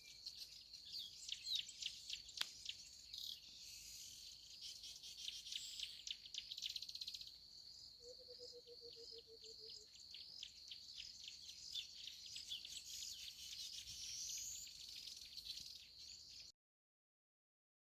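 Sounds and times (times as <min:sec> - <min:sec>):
crickets trilling: 0:00.1 - 0:16.2.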